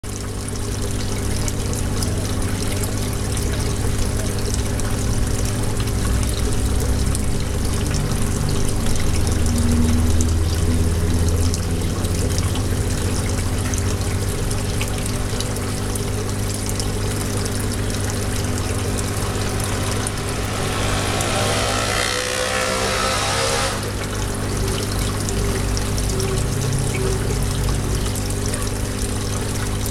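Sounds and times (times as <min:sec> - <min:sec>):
low mechanical hum: 0:00.1 - 0:29.9.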